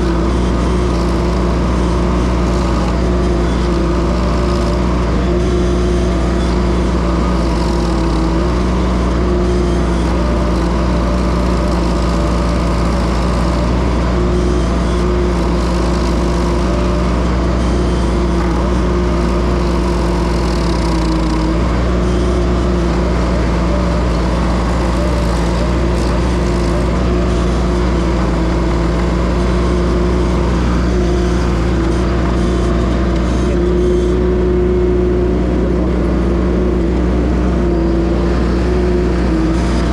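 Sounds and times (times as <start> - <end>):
hydraulic stump grinder: 0.0 - 39.9
loader engine running at high throttle: 0.0 - 39.9.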